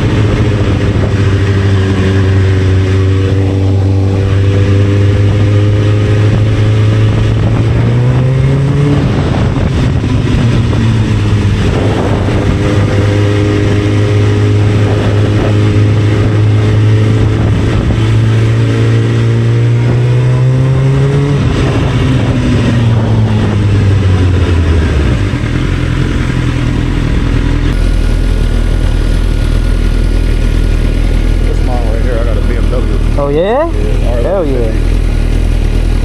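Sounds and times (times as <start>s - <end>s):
motorcycle engine: 0.0s - 36.0s.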